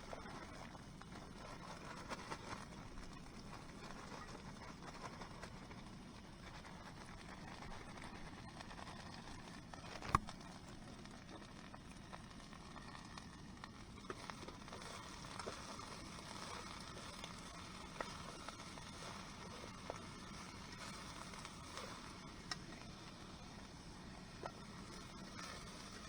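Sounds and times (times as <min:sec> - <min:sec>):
light crackling: 0:00.0 - 0:26.0
small ticks: 0:00.0 - 0:26.0.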